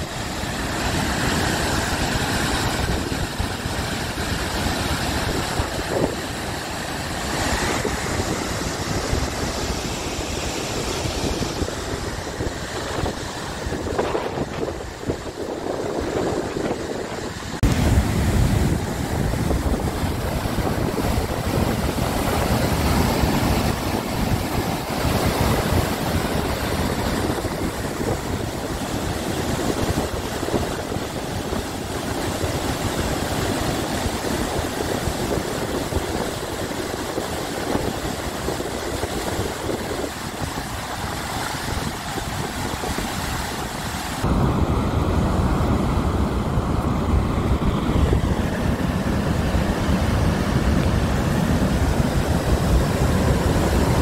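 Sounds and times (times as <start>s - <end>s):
water rushing over spillway: 0.0s - 54.0s
wind rumble on microphone: 0.0s - 54.0s.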